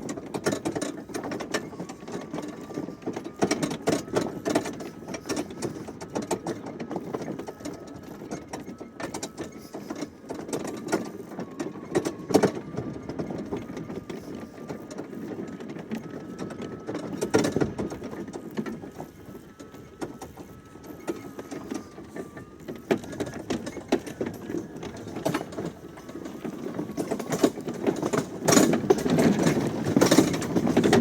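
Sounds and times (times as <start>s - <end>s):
wagon knocking and clattering: 0.0s - 31.0s.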